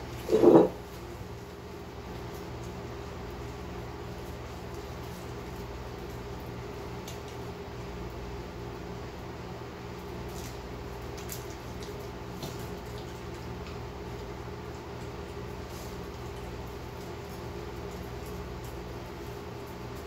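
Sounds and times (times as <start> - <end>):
low hum of room machinery: 0.0 - 20.0.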